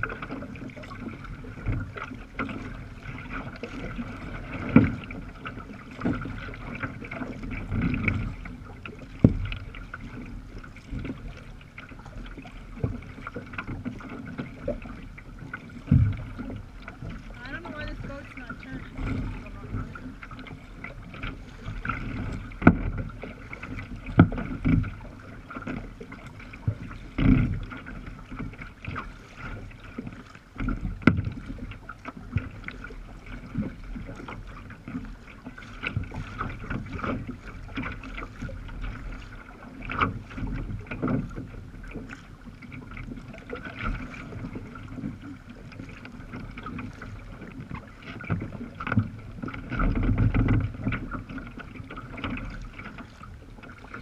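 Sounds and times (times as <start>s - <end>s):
waves slapping against kayak: 0.0s - 54.0s.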